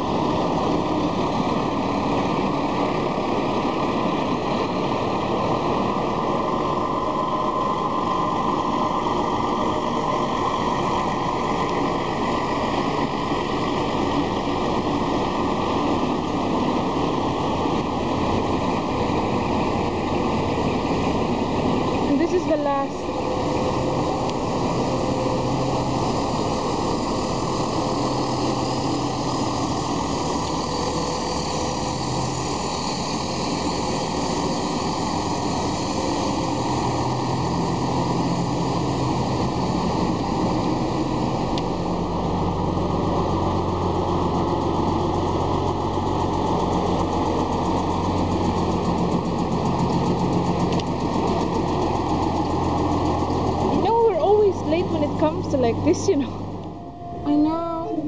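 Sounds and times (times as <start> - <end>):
deep lorry engine passing close: 0.0 - 58.0
diesel truck engines driving past: 0.0 - 58.0.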